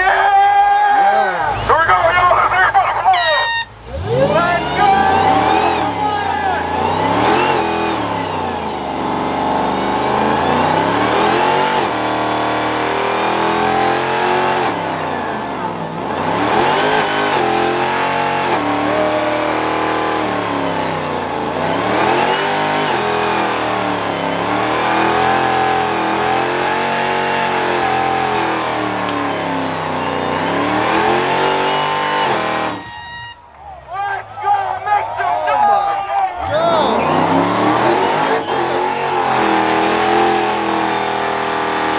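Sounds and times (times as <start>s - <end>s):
tyres squealing: 1.1s - 33.5s, 36.3s - 41.9s
car engine revving hard: 3.8s - 33.0s, 36.3s - 41.9s.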